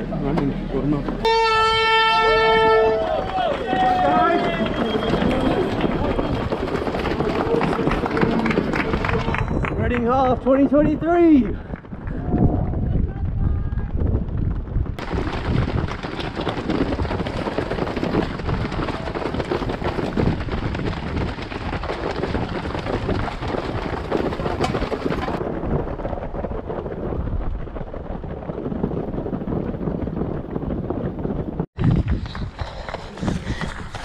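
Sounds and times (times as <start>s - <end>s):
wind buffeting microphone: 1.1s - 34.0s.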